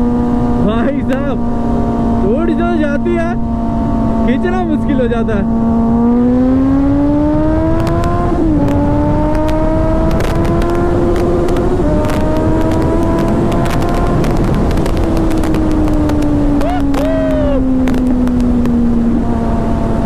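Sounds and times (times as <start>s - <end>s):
motorcycle engine revving: 0.0s - 20.0s
wind buffeting microphone: 0.0s - 20.0s.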